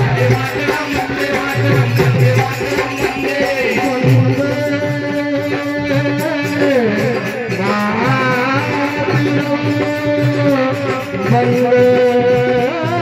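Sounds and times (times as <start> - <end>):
folk devotional music: 0.0 - 13.0.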